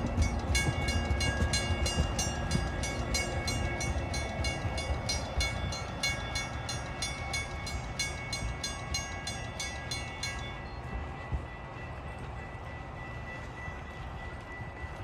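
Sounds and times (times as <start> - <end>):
crossing bell ringing: 0.0 - 15.0.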